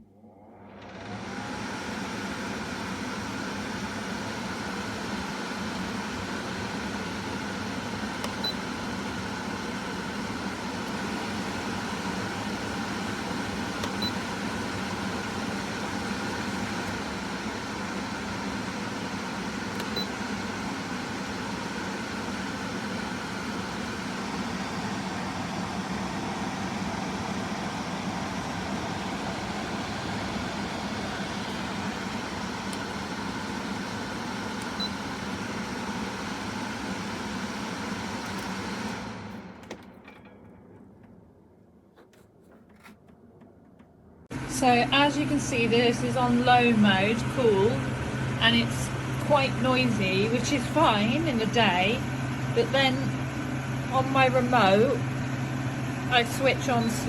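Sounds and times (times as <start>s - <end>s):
portable air conditioner fan: 0.0s - 57.0s.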